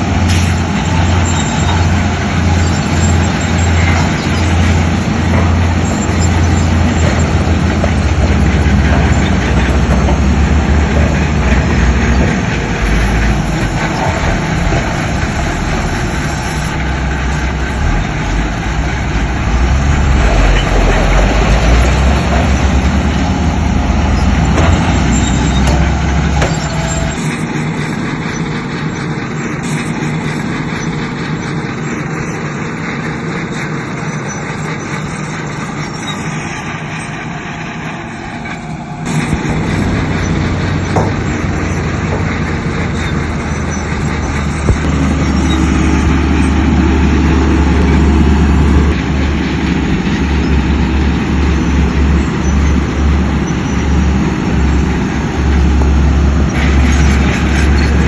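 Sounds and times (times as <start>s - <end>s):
heavy diesel machinery drone: 0.0s - 58.0s.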